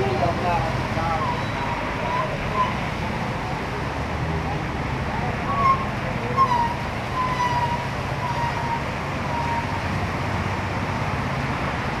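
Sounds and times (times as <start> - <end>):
road noise hum: 0.0 - 12.0
vehicle engines running: 0.0 - 12.0.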